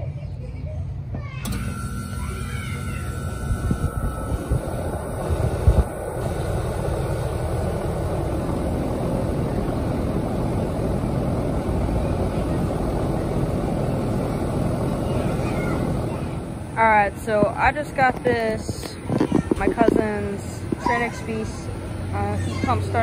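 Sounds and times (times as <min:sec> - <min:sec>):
heat pump unit humming: 0:00.0 - 0:23.0.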